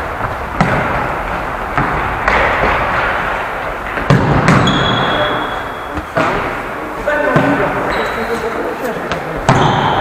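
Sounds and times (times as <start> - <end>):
ball thuds echoing in hall: 0.0 - 10.0.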